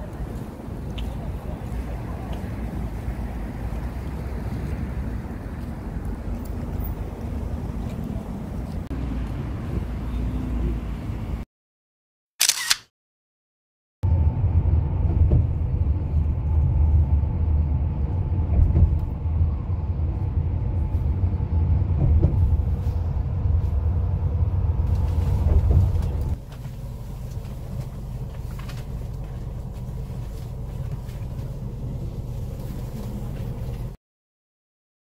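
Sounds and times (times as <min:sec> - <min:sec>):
engine and road rumble: 0:00.0 - 0:11.5, 0:14.0 - 0:34.0.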